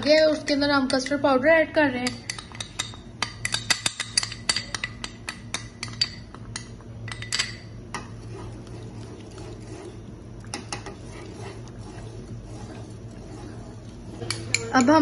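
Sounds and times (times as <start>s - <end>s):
low steady hum: 0.0s - 15.0s
spoon stirring milk: 2.0s - 15.0s.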